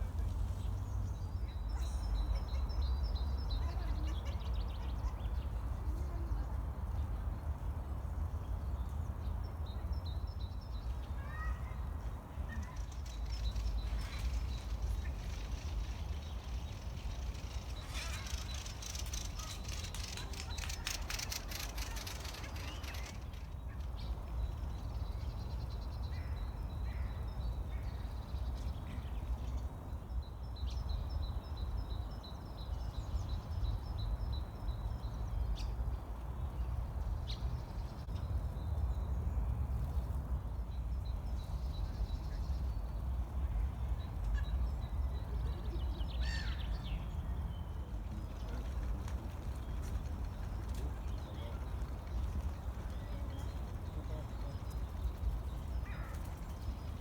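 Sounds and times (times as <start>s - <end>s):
small birds chirping and trilling: 0.1s - 57.0s.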